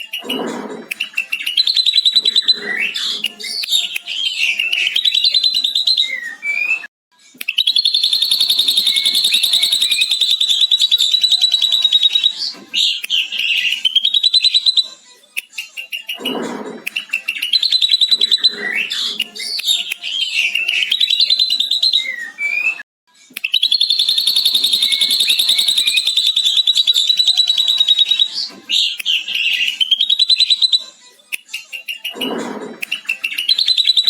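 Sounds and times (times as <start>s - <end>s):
bird chirping and trilling: 0.0s - 6.8s, 7.5s - 15.0s, 15.8s - 22.8s, 23.4s - 31.0s, 31.8s - 34.0s.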